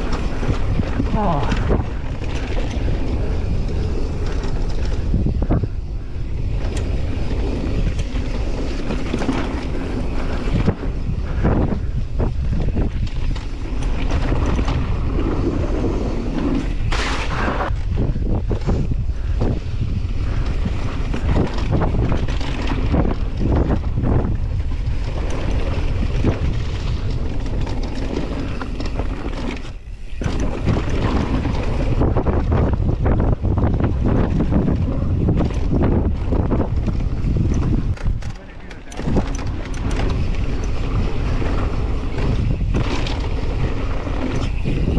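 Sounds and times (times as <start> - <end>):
bike knocking and clattering: 0.0 - 15.6, 16.4 - 44.9
wind rushing over microphone: 0.0 - 44.9.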